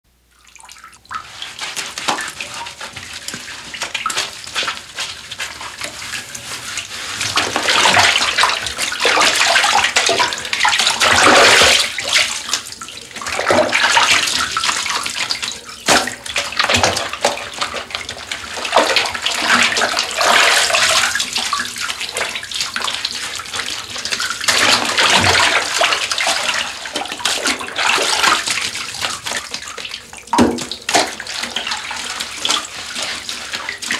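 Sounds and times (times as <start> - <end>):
bathwater sloshing and splashing: 0.3 - 33.9.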